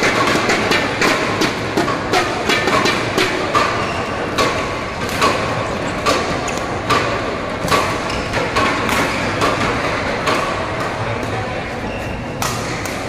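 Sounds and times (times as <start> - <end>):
rackets hitting a shuttlecock: 0.0 - 11.5, 12.3 - 13.0
sports hall noise: 0.0 - 13.0.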